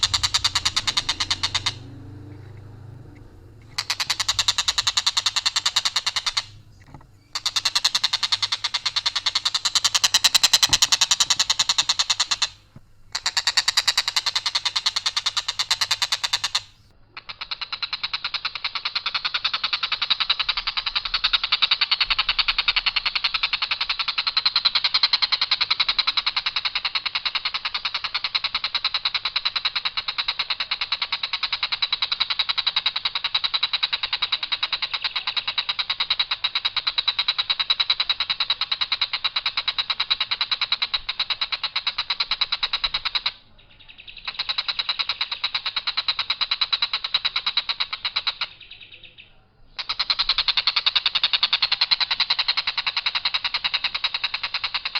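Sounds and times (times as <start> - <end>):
kingfisher rattling call: 0.0 - 54.9.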